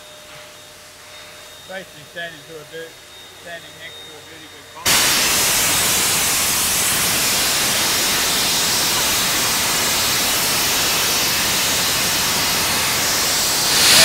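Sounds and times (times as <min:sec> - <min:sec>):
steam valve hissing: 0:01.1 - 0:14.0.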